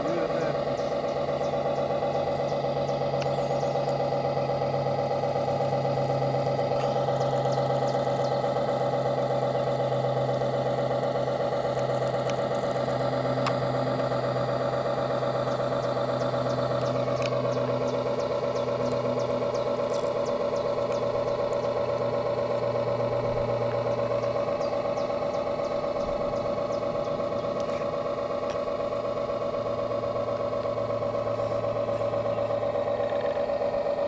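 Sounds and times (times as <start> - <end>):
small motor humming: 0.0 - 34.0.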